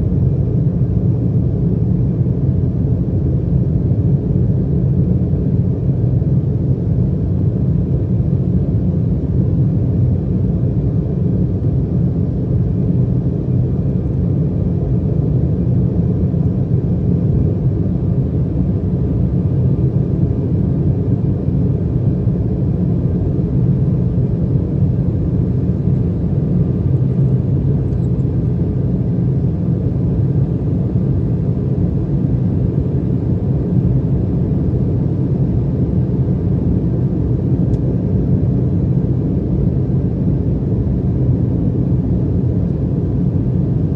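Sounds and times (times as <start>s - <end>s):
faint steady whine: 0.0s - 43.9s
jet engine cabin rumble: 0.0s - 43.9s.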